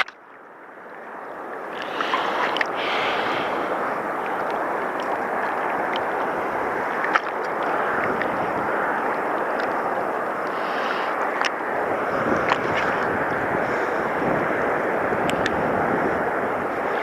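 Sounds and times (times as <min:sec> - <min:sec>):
water at seashore: 0:00.0 - 0:17.0
wind: 0:00.0 - 0:17.0.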